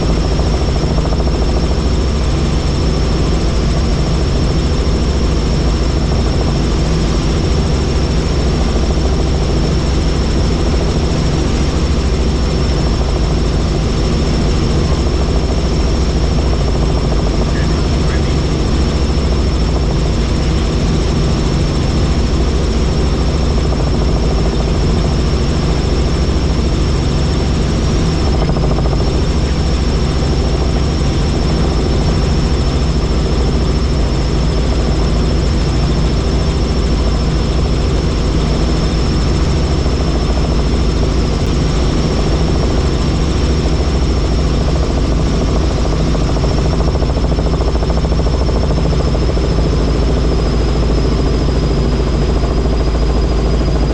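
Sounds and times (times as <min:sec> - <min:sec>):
helicopter rotor and engine drone: 0:00.0 - 0:53.9
high-pitched turbine whine: 0:00.0 - 0:53.9.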